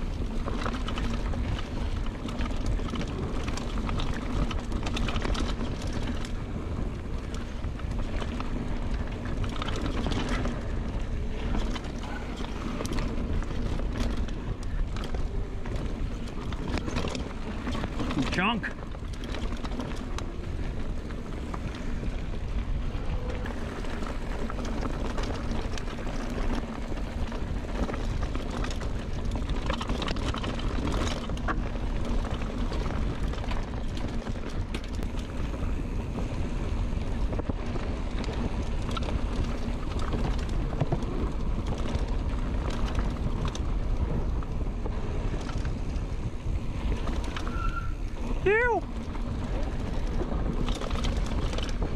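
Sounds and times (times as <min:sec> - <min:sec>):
bike chain and frame rattling: 0:00.0 - 0:51.9
bike tyres rolling on dirt: 0:00.0 - 0:51.9
wind noise on microphone: 0:00.0 - 0:51.9.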